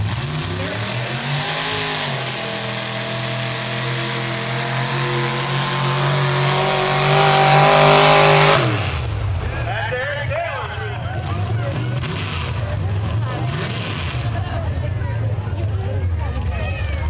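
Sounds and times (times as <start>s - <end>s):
truck engine revving at full throttle: 0.0s - 17.0s.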